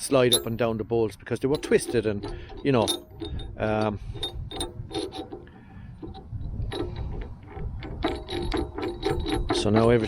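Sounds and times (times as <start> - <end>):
metal parts clicking and knocking: 0.0 - 10.0.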